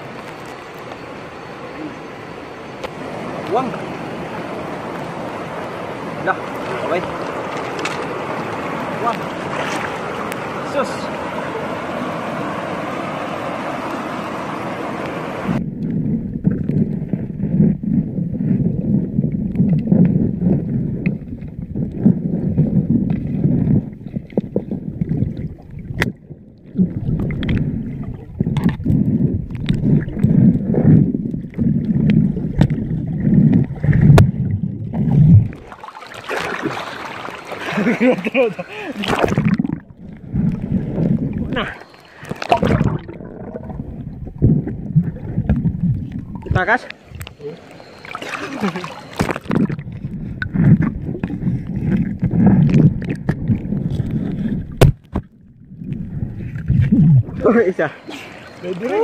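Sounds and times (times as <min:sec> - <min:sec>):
underwater rumbling and gurgling: 0:00.0 - 0:59.0.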